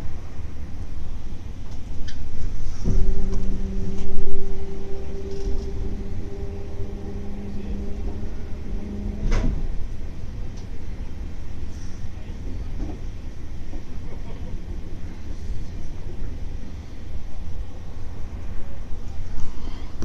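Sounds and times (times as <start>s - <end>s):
electric train rumbling: 0.0s - 20.0s
steady low hum: 0.0s - 20.0s.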